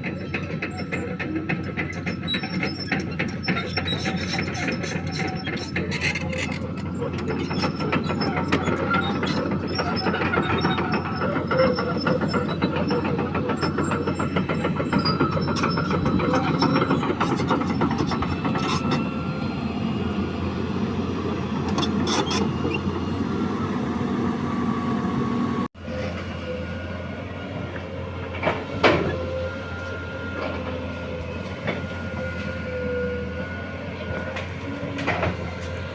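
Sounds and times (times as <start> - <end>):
excavator diesel engine running: 0.0 - 35.9
metallic clanks and squeals: 0.0 - 35.9.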